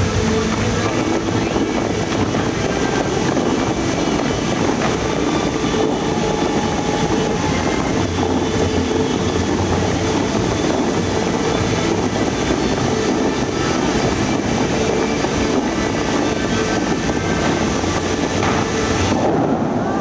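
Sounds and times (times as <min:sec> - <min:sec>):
fountain jets spraying: 0:00.0 - 0:20.0
water falling onto lake: 0:00.0 - 0:20.0.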